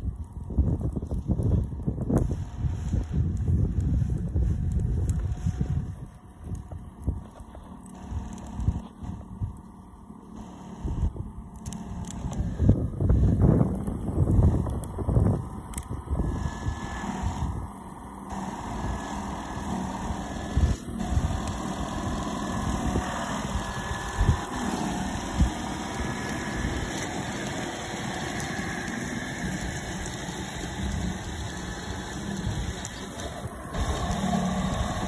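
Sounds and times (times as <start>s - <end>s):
snow blower droning: 0.0s - 35.0s.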